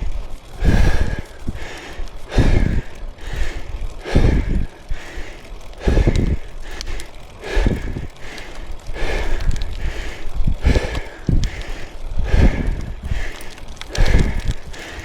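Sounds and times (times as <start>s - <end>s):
person breathing heavily: 0.0s - 15.0s.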